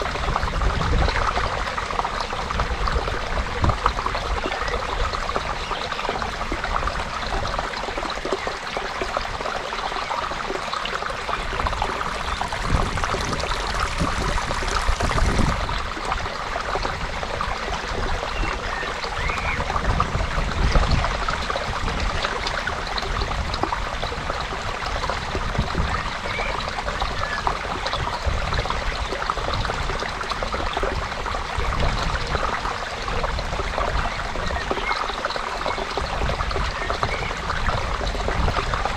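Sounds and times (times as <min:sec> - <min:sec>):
creek water trickling: 0:00.0 - 0:38.9.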